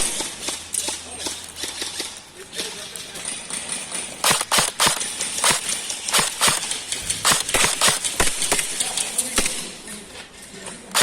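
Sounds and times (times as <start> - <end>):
airsoft guns firing: 0.0 - 10.0.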